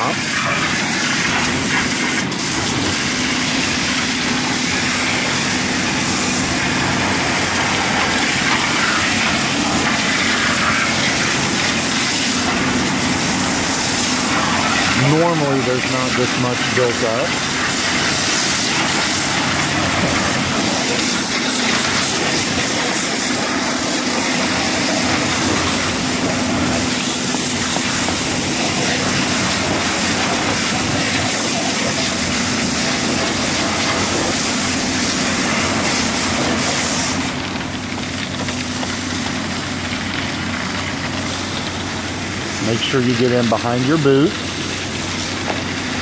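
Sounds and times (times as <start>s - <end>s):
hose spray hissing on steel: 0.0s - 46.0s.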